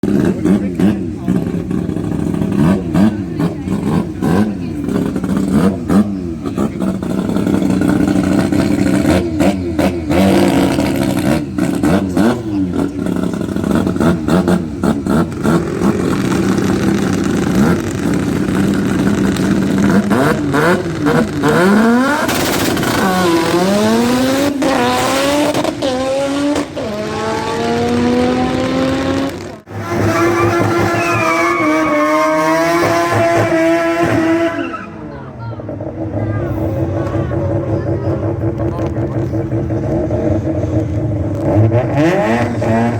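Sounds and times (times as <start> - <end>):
car accelerating through gears: 0.0 - 35.1, 35.7 - 42.9
drag car engines revving with pops: 0.0 - 42.9.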